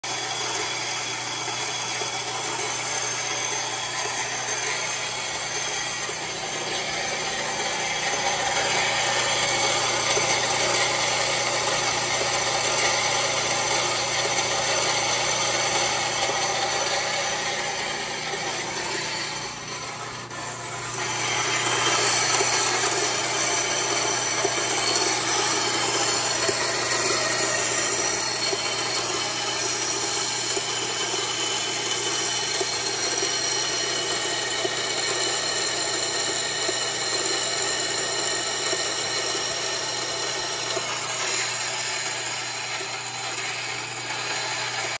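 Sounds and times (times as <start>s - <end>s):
motor hum: 0.0s - 45.0s
saw blade grinding glass: 0.0s - 45.0s.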